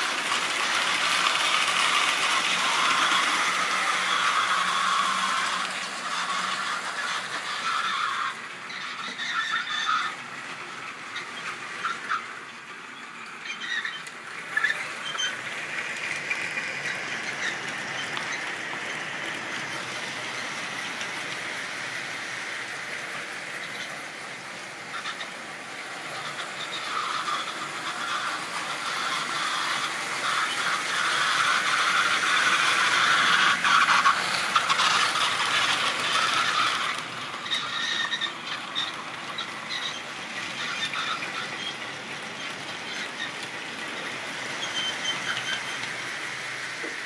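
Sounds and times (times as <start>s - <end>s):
model train motor whir: 0.0s - 47.0s
wheels rattling over rails: 0.0s - 47.0s.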